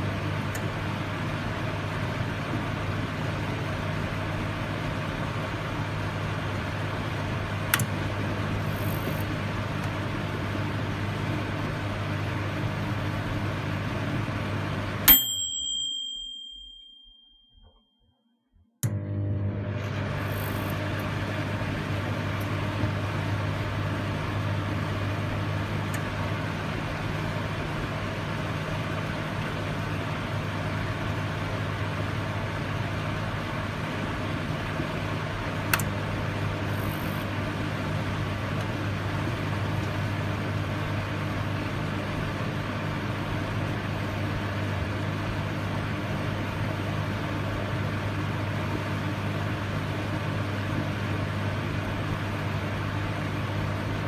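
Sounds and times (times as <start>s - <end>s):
microwave oven humming: 0.0s - 17.0s, 18.8s - 54.0s.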